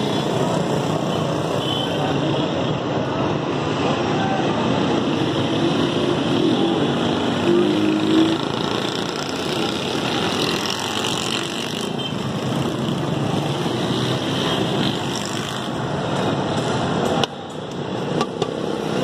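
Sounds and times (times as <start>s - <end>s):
street traffic din: 0.0s - 19.0s.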